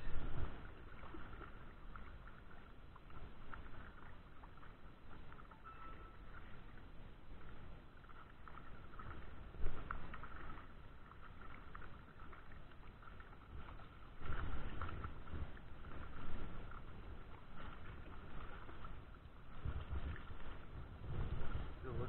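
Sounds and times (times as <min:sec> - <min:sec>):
fish thrashing and splashing: 0:00.0 - 0:21.7.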